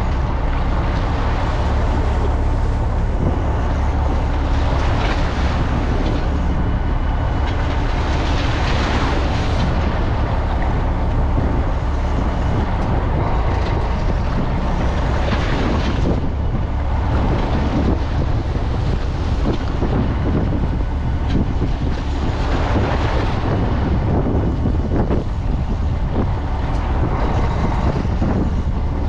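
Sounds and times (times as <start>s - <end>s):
boat engine rumbling: 0.0s - 29.0s
rushing water: 0.0s - 29.0s
wind: 0.0s - 29.0s.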